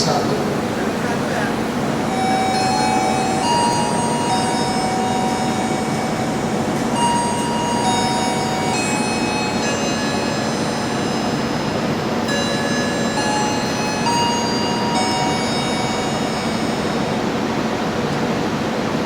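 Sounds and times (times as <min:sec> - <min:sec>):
train wheels rushing on rails: 0:00.0 - 0:19.0
high ringing tones: 0:01.8 - 0:18.6.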